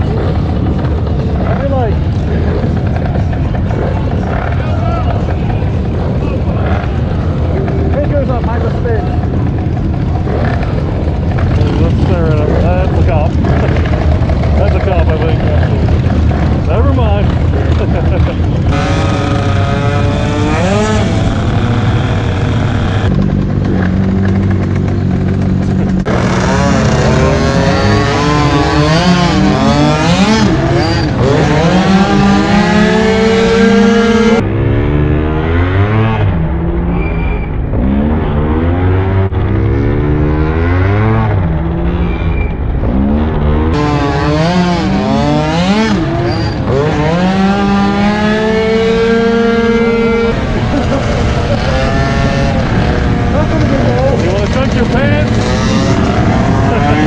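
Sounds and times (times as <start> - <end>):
motorcycle engines revving: 0.0 - 57.0
steady engine drone: 0.0 - 57.0.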